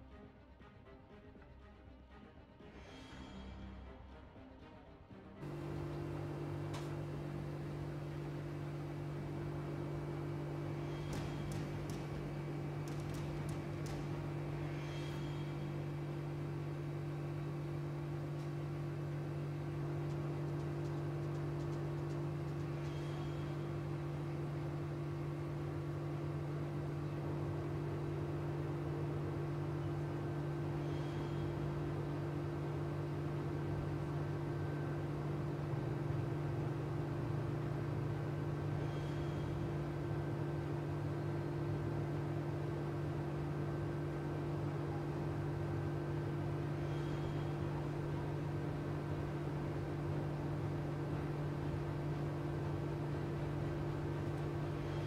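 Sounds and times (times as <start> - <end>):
low electrical hum: 5.4 - 55.0.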